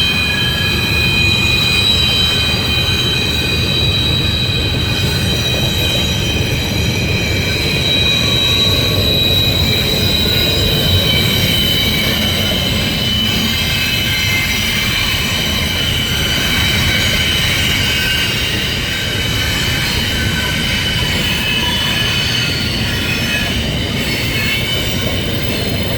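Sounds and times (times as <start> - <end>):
freight train cars rumbling: 0.0 - 25.9
train wheels squealing: 0.0 - 25.9.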